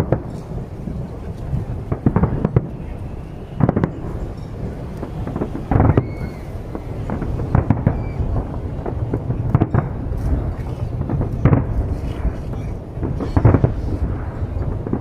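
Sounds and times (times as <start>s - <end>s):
firework bangs and crackles: 0.0s - 15.0s.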